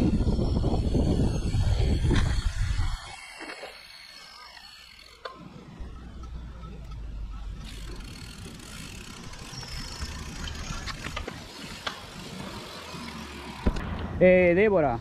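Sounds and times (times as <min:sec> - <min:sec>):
bicycle tyre and wind noise: 0:00.0 - 0:15.0.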